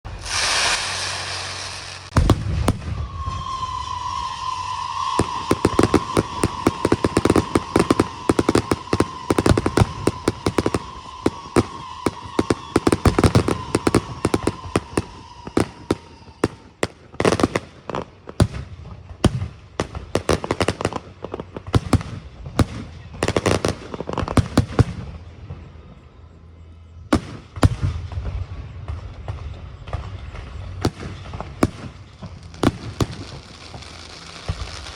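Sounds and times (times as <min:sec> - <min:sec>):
fireworks bangs and crackling: 0:00.0 - 0:34.9
firework whistle: 0:00.1 - 0:34.9.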